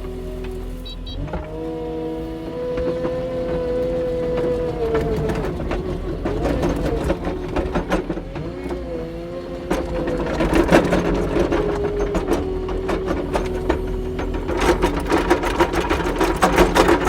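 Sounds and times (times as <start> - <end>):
diesel engine under load: 0.0 - 17.0
sharp clanks and knocks: 2.4 - 17.0.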